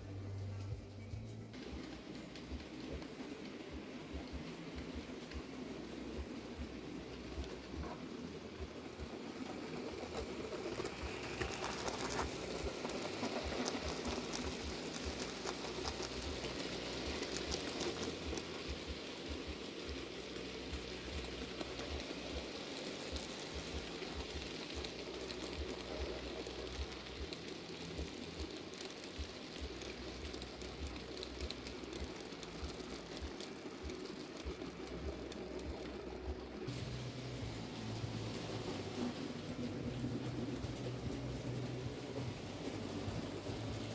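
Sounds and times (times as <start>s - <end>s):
wheels clicking over rails: 0.0s - 43.9s.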